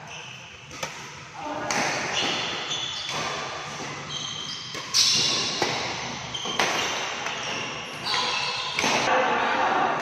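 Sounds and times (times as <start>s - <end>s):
rackets hitting shuttlecock: 0.6s - 9.1s.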